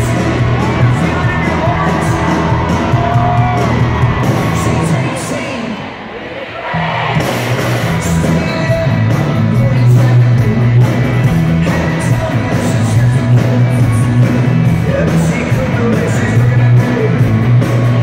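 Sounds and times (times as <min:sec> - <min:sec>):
live rock band playing loud: 0:00.0 - 0:05.4, 0:07.0 - 0:18.0.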